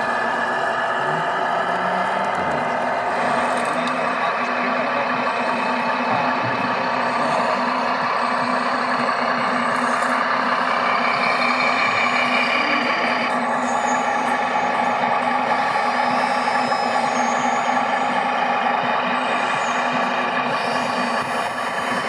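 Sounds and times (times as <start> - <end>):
diesel truck engine noise: 0.0 - 22.0
high whine: 0.0 - 22.0.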